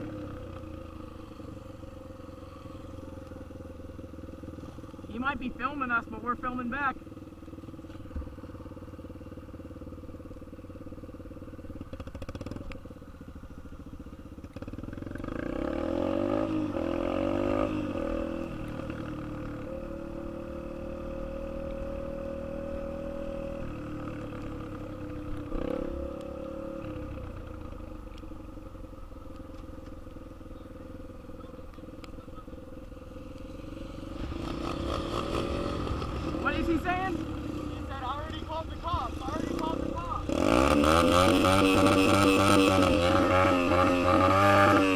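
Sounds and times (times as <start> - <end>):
dirt bike engine idling and revving: 0.0 - 44.9.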